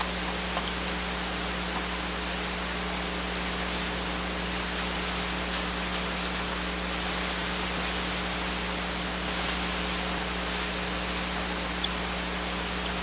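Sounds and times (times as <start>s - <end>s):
low electrical hum: 0.0s - 13.0s
steady hiss: 0.0s - 13.0s.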